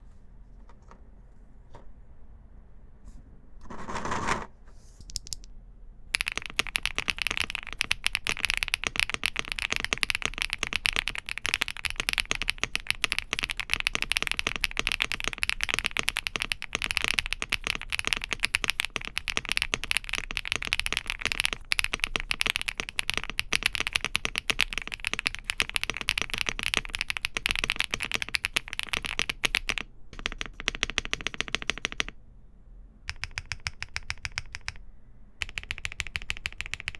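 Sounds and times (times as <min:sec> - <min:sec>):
mechanical keyboard typing: 0:03.6 - 0:05.5, 0:06.2 - 0:32.2, 0:33.1 - 0:34.8, 0:35.4 - 0:36.9.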